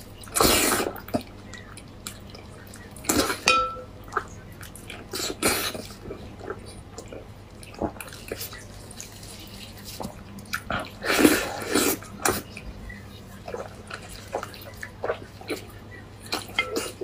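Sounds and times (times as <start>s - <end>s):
wet chewing and lip-smacking: 0.0s - 3.4s, 4.0s - 17.0s.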